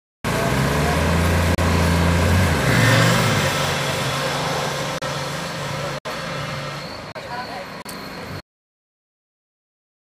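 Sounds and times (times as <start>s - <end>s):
vehicle engine running: 0.2s - 8.4s.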